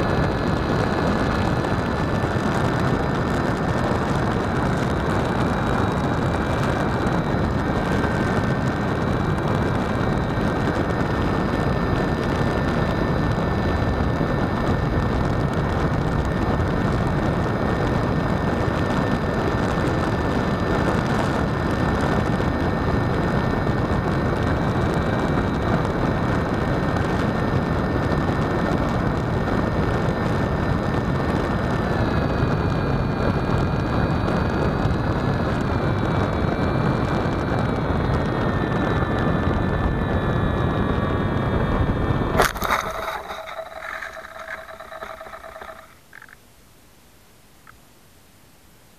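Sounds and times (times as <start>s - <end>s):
motor and propeller whine: 0.0s - 46.4s
wind rushing over microphone: 0.0s - 46.4s.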